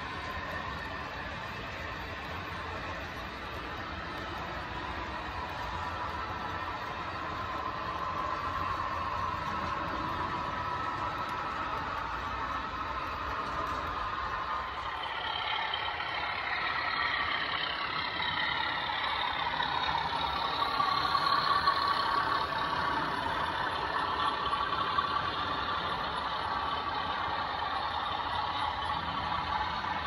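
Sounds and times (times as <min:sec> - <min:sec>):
model locomotive engine sound: 0:00.0 - 0:30.0.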